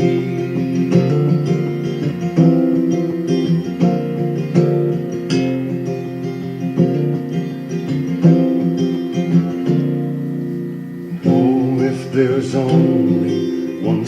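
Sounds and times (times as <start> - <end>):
acoustic guitar picked and strummed: 0.0 - 14.0.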